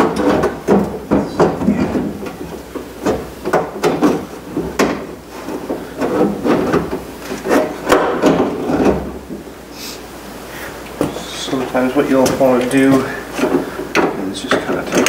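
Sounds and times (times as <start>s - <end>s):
metal clunks and scraping: 0.0s - 9.5s, 10.9s - 15.0s.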